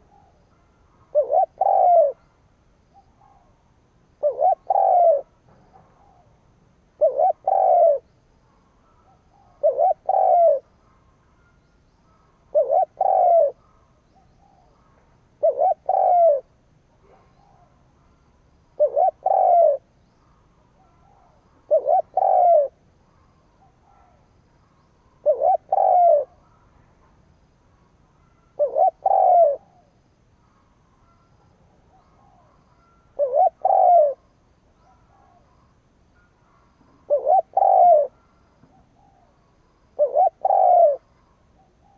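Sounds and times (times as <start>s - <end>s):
dove cooing: 0.0s - 3.6s, 4.2s - 8.1s, 8.8s - 11.1s, 12.1s - 18.1s, 18.7s - 27.2s, 27.8s - 35.7s, 36.4s - 41.9s.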